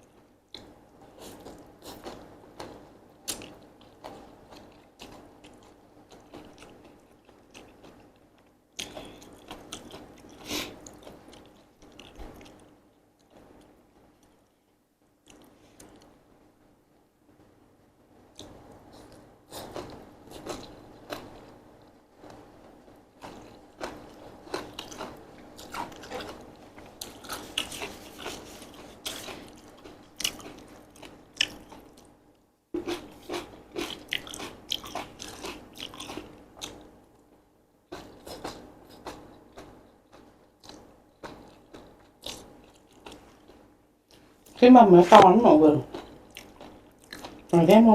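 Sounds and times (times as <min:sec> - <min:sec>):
close chewing of noodles: 0:00.5 - 0:13.6, 0:18.3 - 0:32.2, 0:32.8 - 0:36.9, 0:37.9 - 0:44.6, 0:45.8 - 0:47.9.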